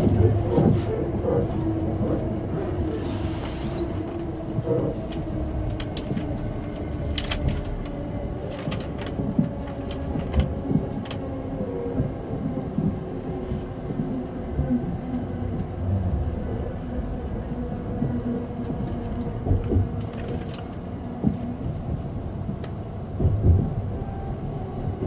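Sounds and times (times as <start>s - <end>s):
train car rumble: 0.0s - 25.0s.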